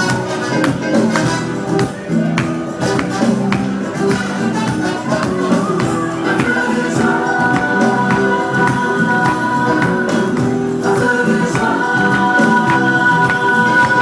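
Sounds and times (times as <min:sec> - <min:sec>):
gospel singing with chords: 0:00.0 - 0:14.0.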